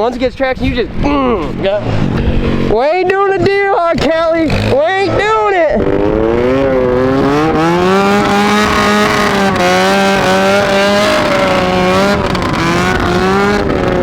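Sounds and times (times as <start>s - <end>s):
go-kart engine revving: 1.0s - 14.0s.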